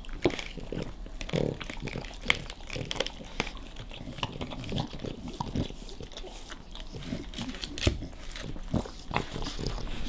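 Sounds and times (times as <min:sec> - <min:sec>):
dogs gnawing and crunching bones: 0:00.0 - 0:10.0
teeth scraping on bone: 0:00.0 - 0:10.0.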